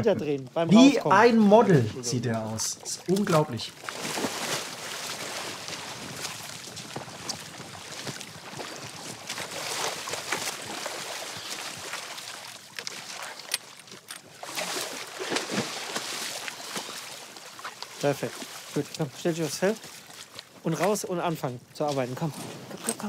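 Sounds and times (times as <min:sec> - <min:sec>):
water splashing and sloshing: 0:00.4 - 0:23.0.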